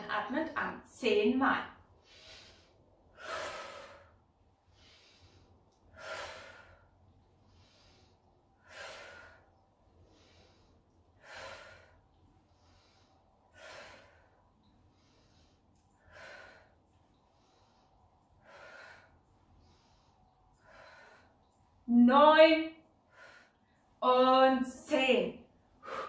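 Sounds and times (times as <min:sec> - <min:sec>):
woman breathing rhythmically: 0:01.8 - 0:26.0.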